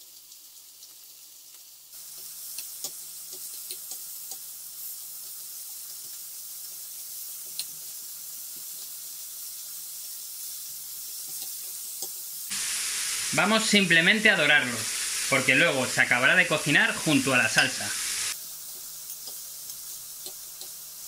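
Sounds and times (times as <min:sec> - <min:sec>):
chicken sizzling in a frying pan: 0:00.0 - 0:21.0.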